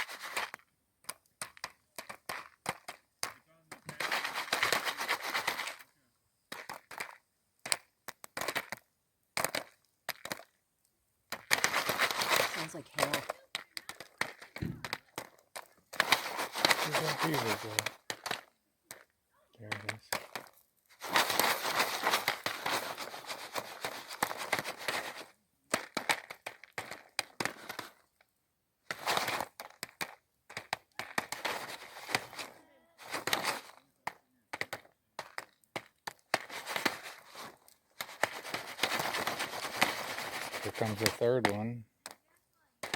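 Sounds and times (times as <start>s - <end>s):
popcorn popping: 0.0s - 5.9s, 6.5s - 42.9s
rustling: 0.0s - 8.8s, 11.3s - 28.1s, 28.8s - 42.2s.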